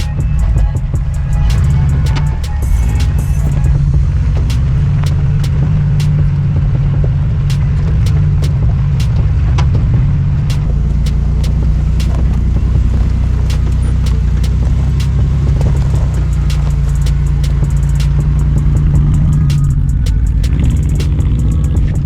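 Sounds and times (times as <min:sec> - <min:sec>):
sharp clicks and knocks: 0:00.0 - 0:22.0
van engine running at low speed: 0:00.0 - 0:22.0.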